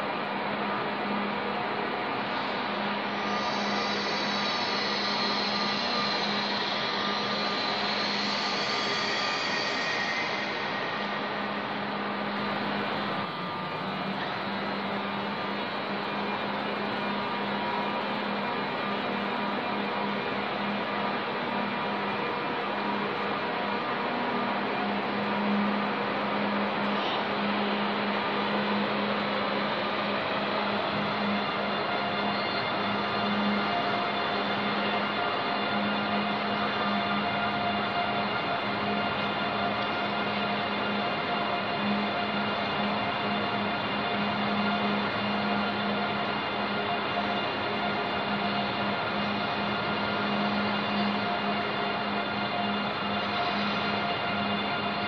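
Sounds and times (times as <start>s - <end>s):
echoing station ambience: 0.0s - 55.0s
electric train whirring: 0.0s - 55.0s.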